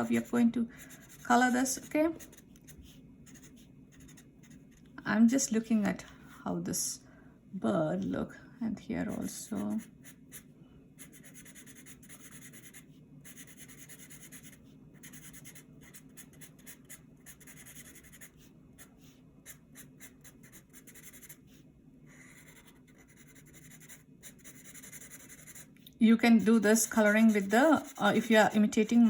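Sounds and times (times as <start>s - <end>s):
crayon scratching on paper: 0.0s - 4.9s, 9.0s - 29.0s.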